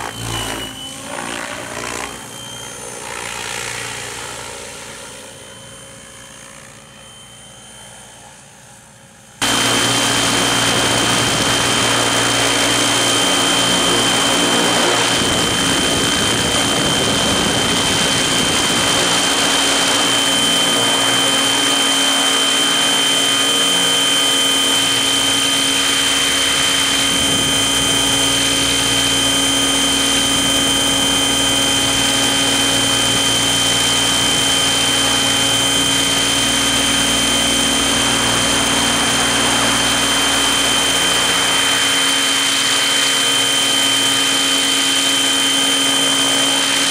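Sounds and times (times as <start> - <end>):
model helicopter rotor and motor: 0.0 - 46.9.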